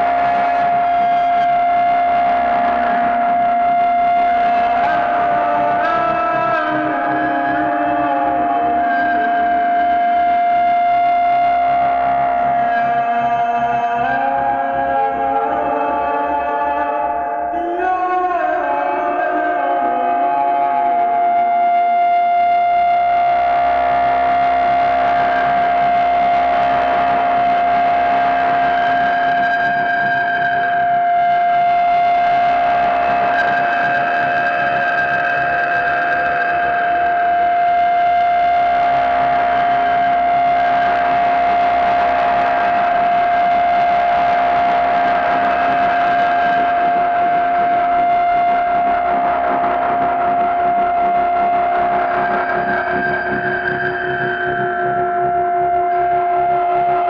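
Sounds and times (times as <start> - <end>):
distorted feedback drone: 0.0 - 57.0.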